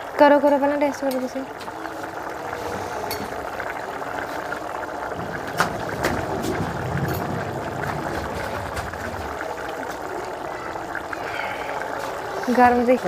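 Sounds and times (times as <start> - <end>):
wood fire burning: 0.0 - 13.0.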